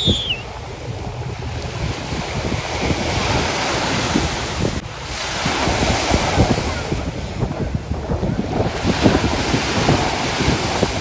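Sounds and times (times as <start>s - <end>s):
small waves washing onto beach: 0.0s - 11.0s
wind buffeting microphone: 0.0s - 11.0s.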